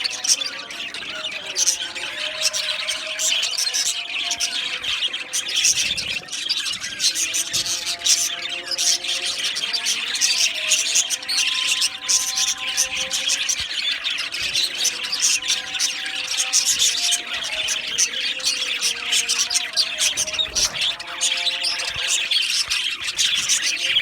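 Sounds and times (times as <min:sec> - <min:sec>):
budgerigars chirping and squawking: 0:00.0 - 0:24.0.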